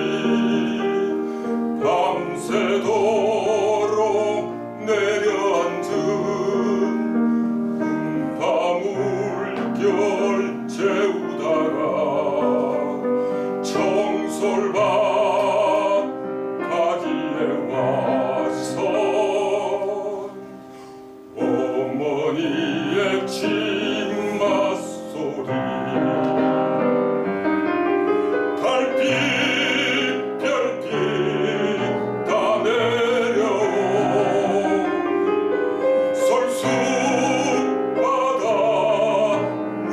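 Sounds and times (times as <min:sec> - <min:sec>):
man singing: 0:00.0 - 0:20.6, 0:21.2 - 0:39.9
piano accompaniment: 0:00.0 - 0:39.9.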